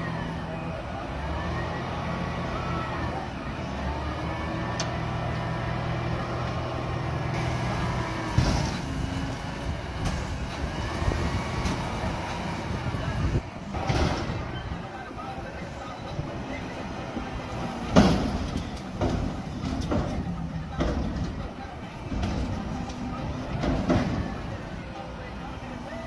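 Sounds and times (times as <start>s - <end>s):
garbage truck engine running: 0.0s - 26.0s.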